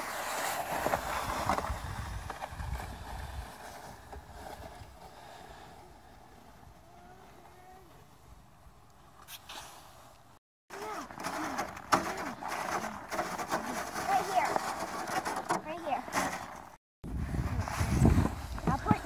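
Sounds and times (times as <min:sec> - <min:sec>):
plastic sled sliding over snow: 0:00.0 - 0:07.8, 0:10.7 - 0:19.0.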